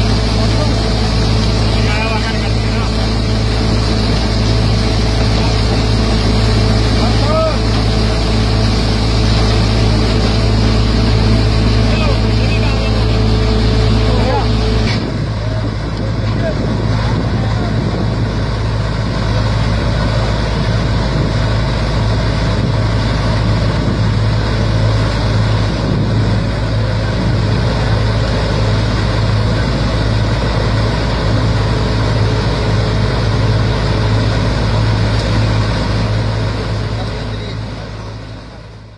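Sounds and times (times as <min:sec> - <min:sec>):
combine harvester drone: 0:00.0 - 0:38.9
tractor engine drone: 0:00.0 - 0:38.9.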